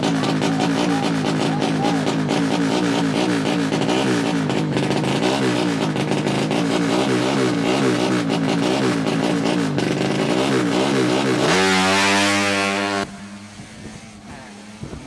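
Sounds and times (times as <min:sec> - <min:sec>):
motorbike engine revving: 0:00.0 - 0:15.0.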